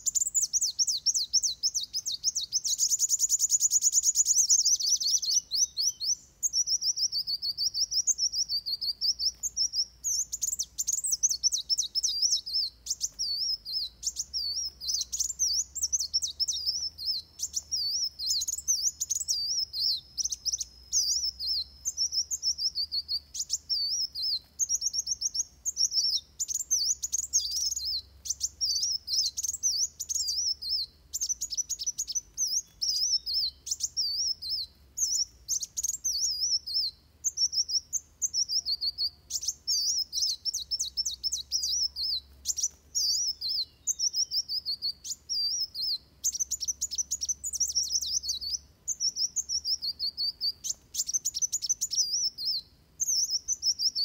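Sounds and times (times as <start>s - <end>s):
sunbird twittering song: 0.0s - 54.0s.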